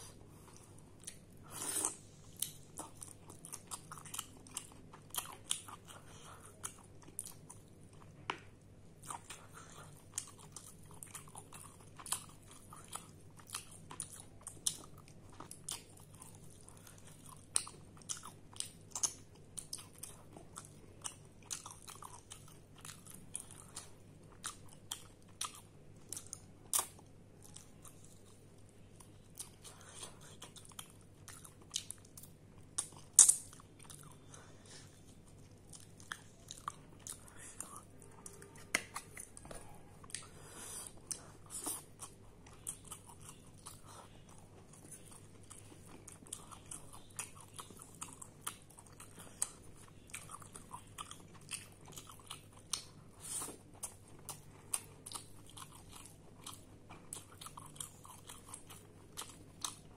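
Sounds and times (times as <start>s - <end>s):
person chewing food: 0.0s - 59.9s.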